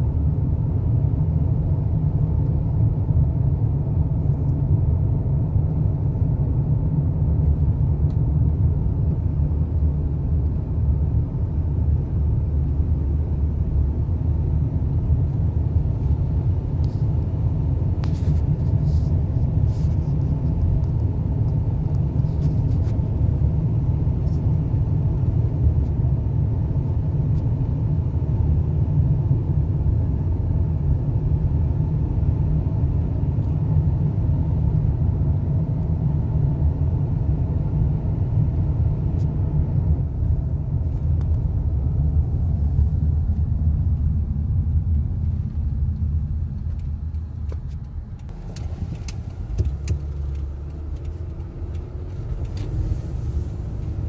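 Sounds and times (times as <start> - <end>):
car cabin road rumble: 0.0 - 54.0.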